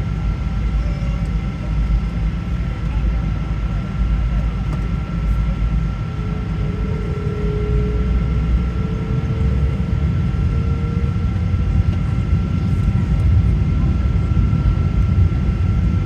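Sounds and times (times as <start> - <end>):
high engine whine: 0.0 - 16.0
jet engines rumbling: 0.0 - 16.0.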